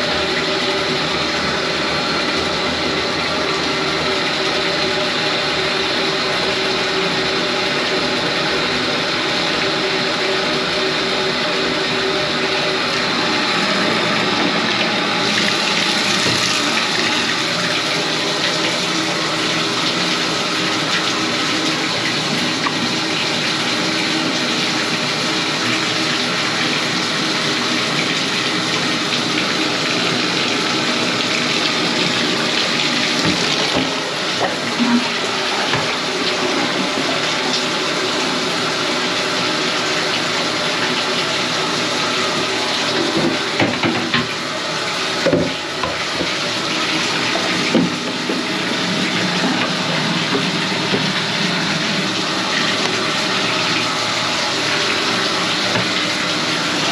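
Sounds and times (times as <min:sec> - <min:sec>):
water running: 0:00.0 - 0:56.9.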